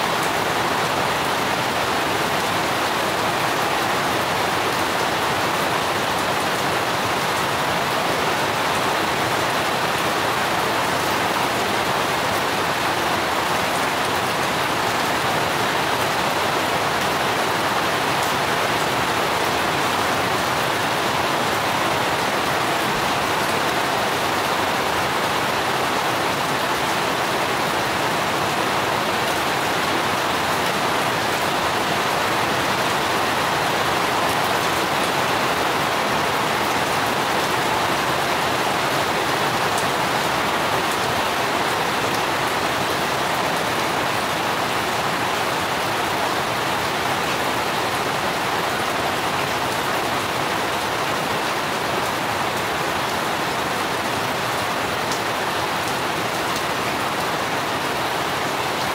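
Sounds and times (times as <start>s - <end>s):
rain falling on plants: 0.0s - 58.9s.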